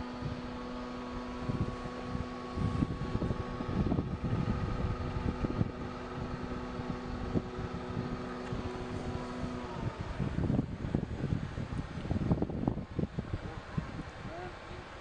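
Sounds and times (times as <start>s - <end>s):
mechanical hum: 0.0s - 15.0s
wind buffeting microphone: 0.0s - 15.0s.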